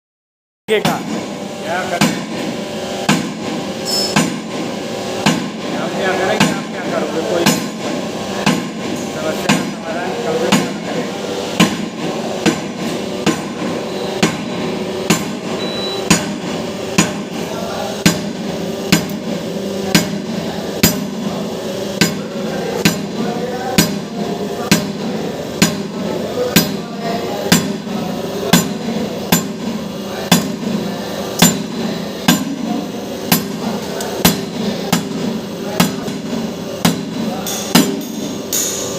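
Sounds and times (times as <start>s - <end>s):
steady hum: 0.7s - 38.9s.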